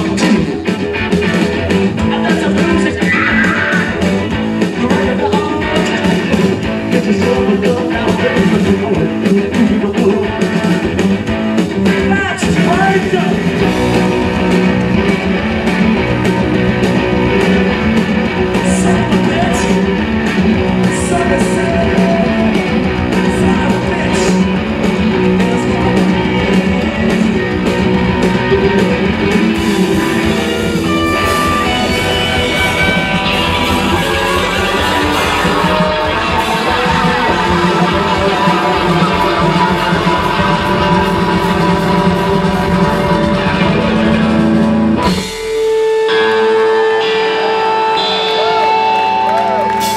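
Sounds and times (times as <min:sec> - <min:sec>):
drums: 0:00.0 - 0:49.9
electric guitars: 0:00.0 - 0:49.9.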